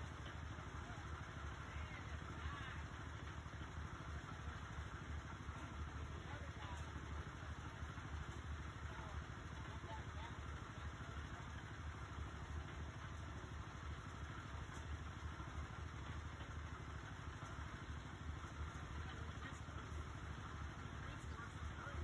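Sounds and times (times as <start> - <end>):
small gas engine idling: 0.0 - 22.0.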